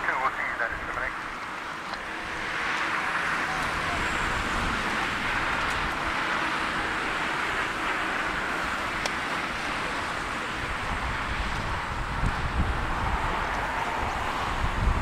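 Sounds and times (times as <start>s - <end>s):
distant jet engine roar: 0.0s - 15.0s.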